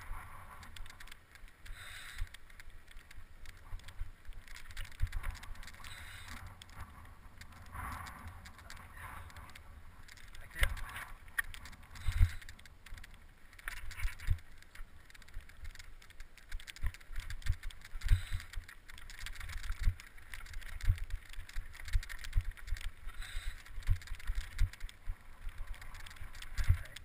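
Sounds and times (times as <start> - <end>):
bicycle rattling over stones: 0.0 - 27.0.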